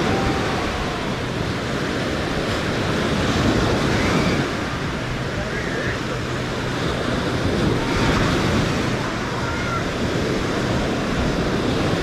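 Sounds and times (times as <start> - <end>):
ocean surf washing onto beach: 0.0 - 12.0
wind on microphone: 0.0 - 12.0.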